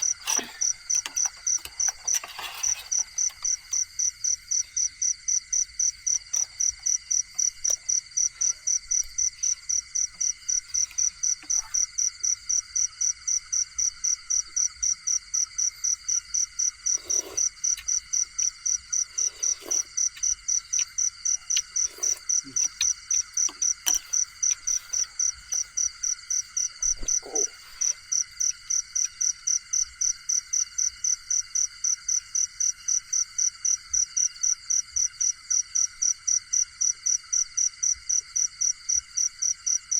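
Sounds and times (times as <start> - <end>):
chorus of insect trills: 0.0 - 39.9
cricket chirping: 0.0 - 39.9.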